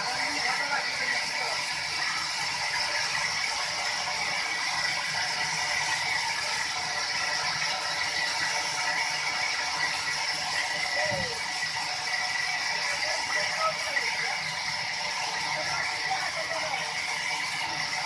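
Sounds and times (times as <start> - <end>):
high steady machine whine: 0.0 - 18.0
sawmill machinery rattle: 0.0 - 18.0.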